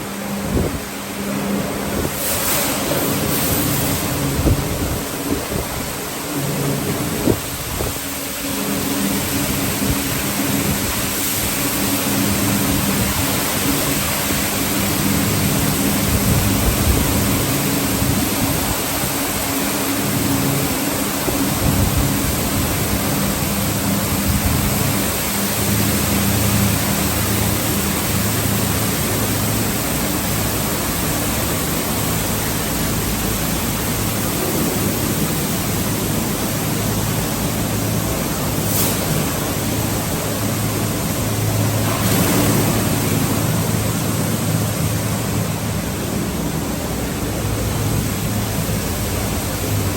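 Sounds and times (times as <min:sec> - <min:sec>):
motor and pump hum: 0:00.0 - 0:49.9
water spray rushing: 0:00.0 - 0:49.9.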